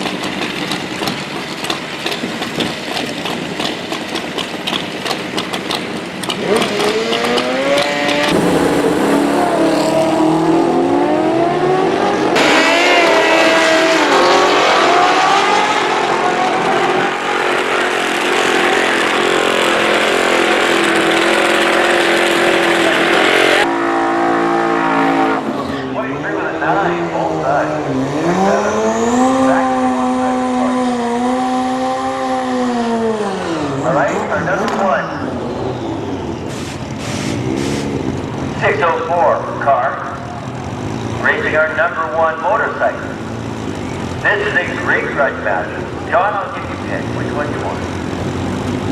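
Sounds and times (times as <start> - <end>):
racing engines revving high: 0.0 - 48.9.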